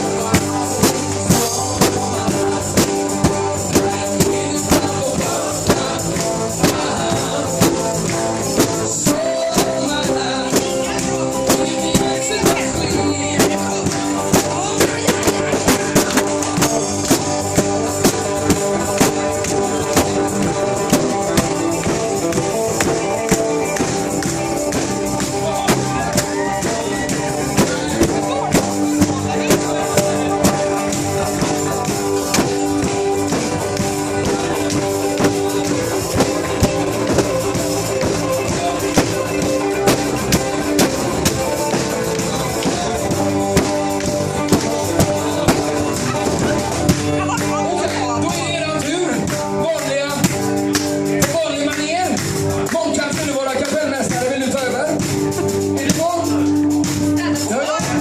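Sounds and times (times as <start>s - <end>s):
person singing: 0.0s - 50.2s
acoustic band playing: 0.0s - 58.0s
percussion hits: 0.0s - 58.0s.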